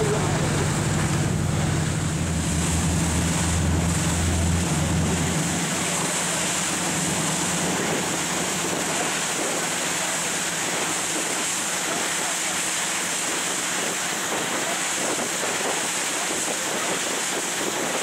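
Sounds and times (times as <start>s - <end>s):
low boat engine hum: 0.0s - 18.0s
rushing water: 0.0s - 18.0s
wind: 0.0s - 18.0s.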